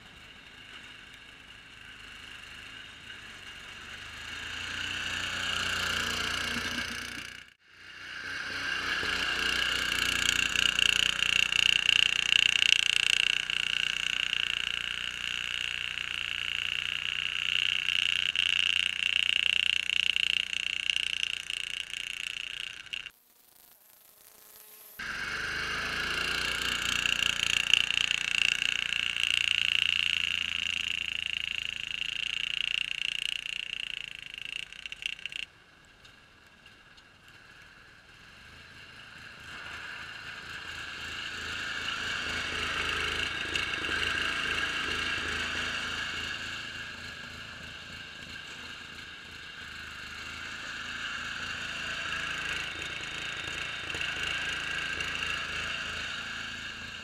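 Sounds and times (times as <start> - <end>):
garden tractor engine whining: 2.2 - 23.1, 25.0 - 35.5, 39.4 - 57.0.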